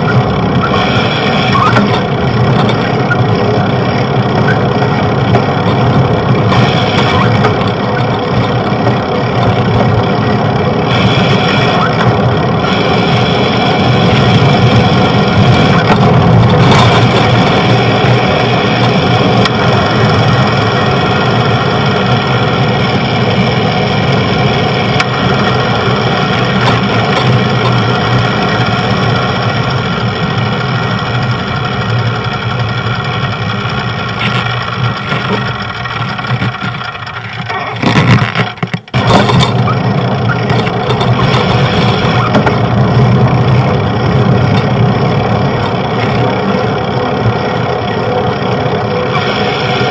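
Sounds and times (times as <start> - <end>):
road traffic rumble: 0.0 - 49.9
vehicle engine idling: 0.0 - 49.9.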